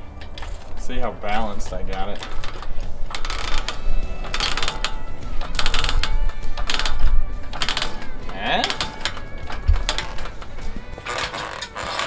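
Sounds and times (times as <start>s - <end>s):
engine hoist pumping clatter: 0.0s - 12.0s.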